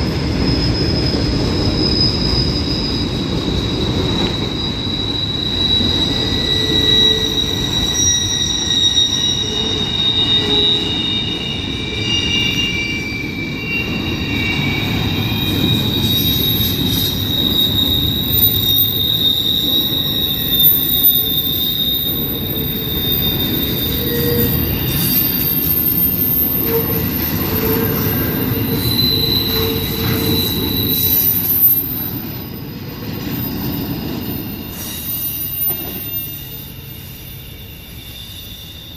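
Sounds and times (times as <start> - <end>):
freight train wheels rumbling: 0.0 - 38.9
high-pitched wheel squeal: 0.0 - 38.9.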